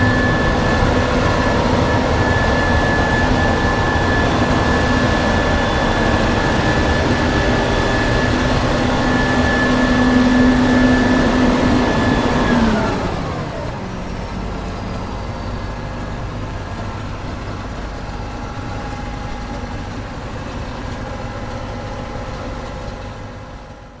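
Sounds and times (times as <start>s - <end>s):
combine harvester high whine: 0.0s - 24.0s.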